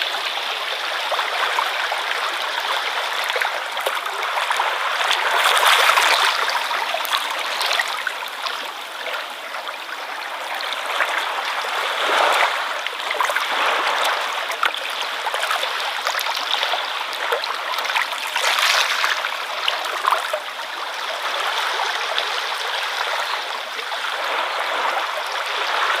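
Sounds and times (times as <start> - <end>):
ocean waves washing ashore: 0.0 - 20.2, 21.0 - 26.0.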